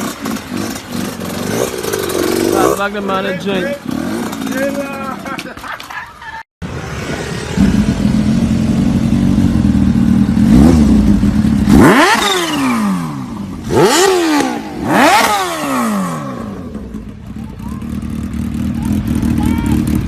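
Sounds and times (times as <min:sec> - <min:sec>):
motorcycle engine revving: 0:00.0 - 0:05.5, 0:06.6 - 0:20.0.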